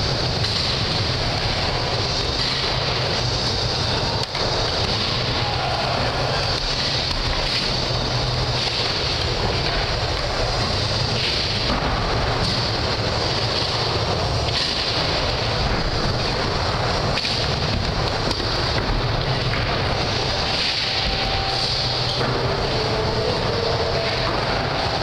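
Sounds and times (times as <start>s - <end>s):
skateboard wheels rolling on ramp: 0.0s - 25.0s.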